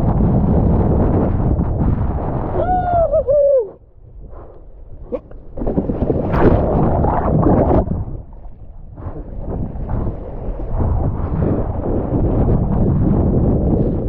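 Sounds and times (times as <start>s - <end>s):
water churning and bubbling: 0.0s - 14.0s
wind buffeting microphone: 0.0s - 14.0s.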